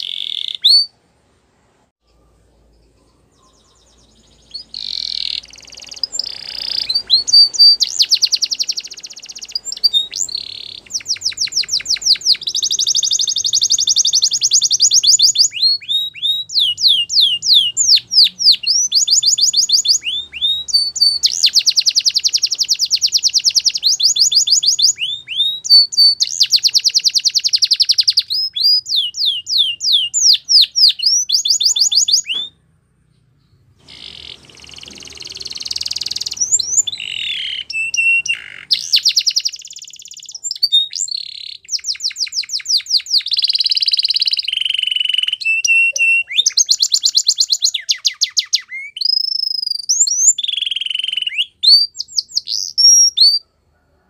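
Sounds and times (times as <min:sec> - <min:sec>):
canary singing trills: 0:00.0 - 0:01.0, 0:02.1 - 0:53.6.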